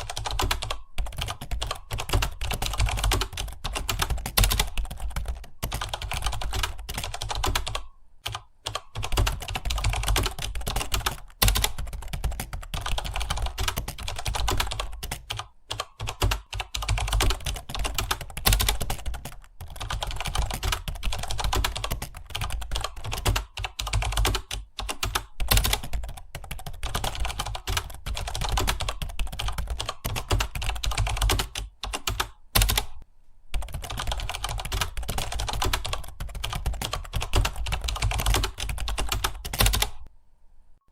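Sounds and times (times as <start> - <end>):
fast typing on computer keyboard: 0.0 - 33.0, 33.6 - 40.1.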